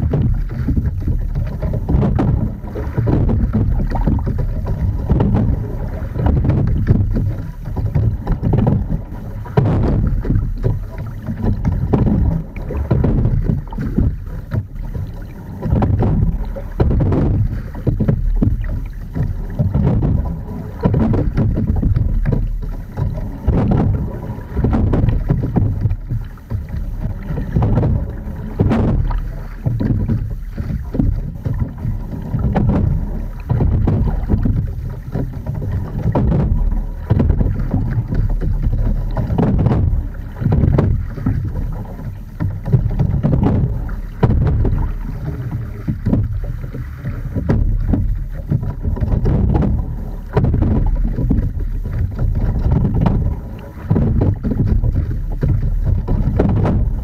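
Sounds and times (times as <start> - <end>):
oar knock and water rush: 0.0 - 57.0
wind rumble on microphone: 0.0 - 57.0.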